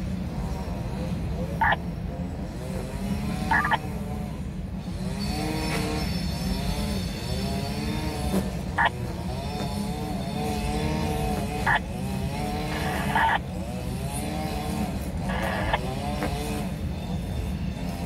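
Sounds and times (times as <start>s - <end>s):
wheels squealing: 0.0s - 18.0s.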